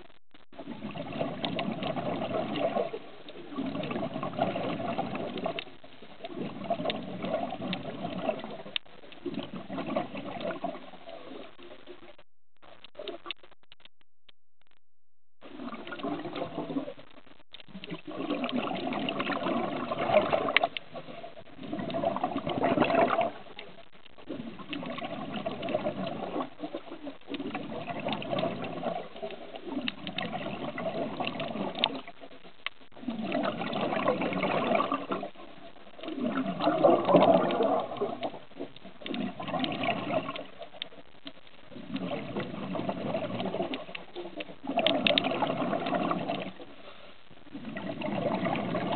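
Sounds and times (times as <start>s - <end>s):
breath bubbling underwater: 0.5s - 5.6s, 6.2s - 11.4s, 15.4s - 23.6s, 24.2s - 32.1s, 33.0s - 40.6s, 41.7s - 46.8s, 47.5s - 48.9s.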